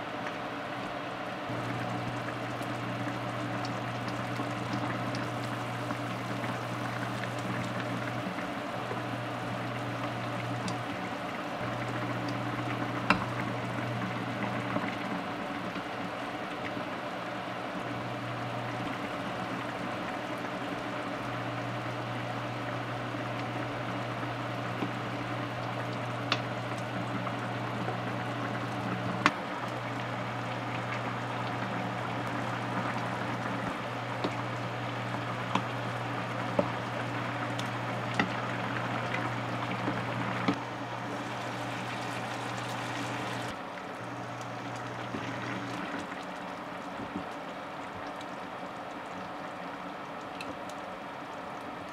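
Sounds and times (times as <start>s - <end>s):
pot bubbling at a boil: 0.0s - 51.9s.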